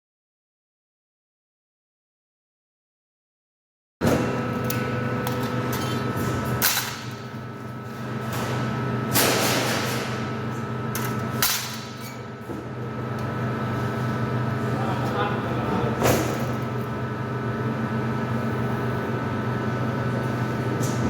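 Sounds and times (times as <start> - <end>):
workshop machinery humming: 4.0 - 21.0.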